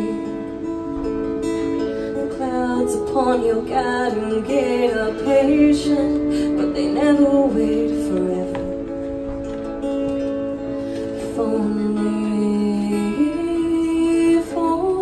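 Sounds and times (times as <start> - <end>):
woman singing: 0.0 - 9.2, 11.0 - 15.0
acoustic guitar chords: 0.0 - 15.0.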